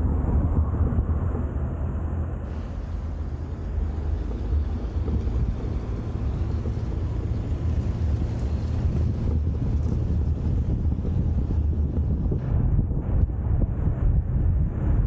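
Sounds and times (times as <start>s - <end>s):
car tyre and road noise: 0.0s - 15.0s
wind buffeting microphone: 0.0s - 15.0s.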